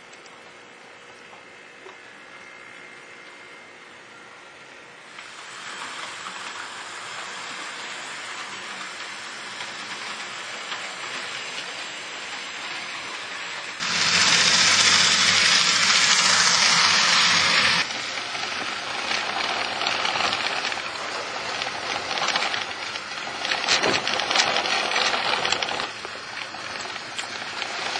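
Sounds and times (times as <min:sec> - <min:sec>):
model tram rolling hiss: 0:05.0 - 0:27.9.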